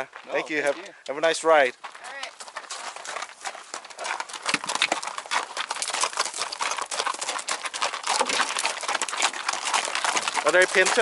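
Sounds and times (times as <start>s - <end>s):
horse hooves on rocky trail: 0.0s - 11.0s.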